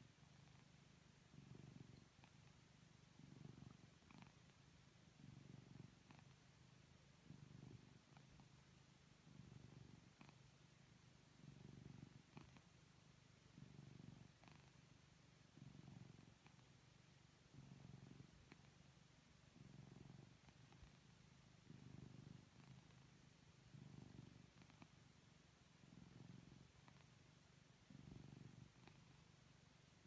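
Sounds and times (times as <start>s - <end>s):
kitten purring softly: 0.0s - 30.0s.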